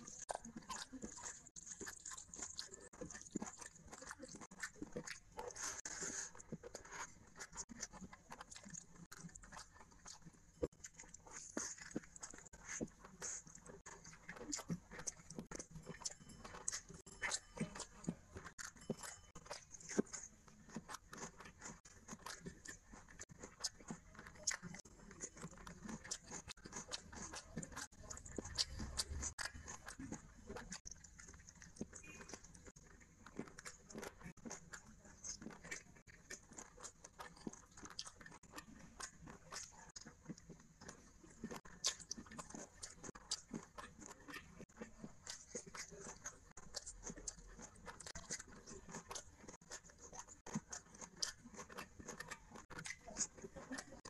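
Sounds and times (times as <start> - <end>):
person chewing and lip-smacking: 0.0 - 54.0.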